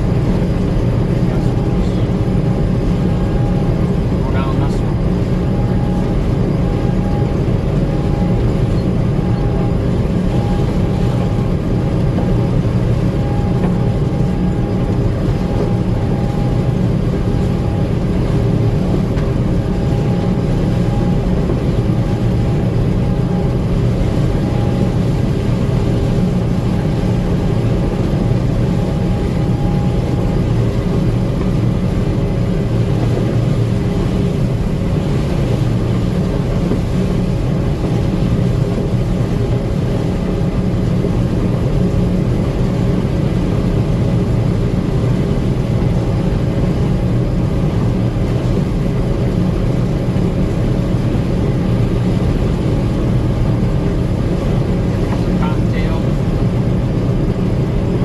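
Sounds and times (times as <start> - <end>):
combine engine and threshing drone: 0.0 - 58.0.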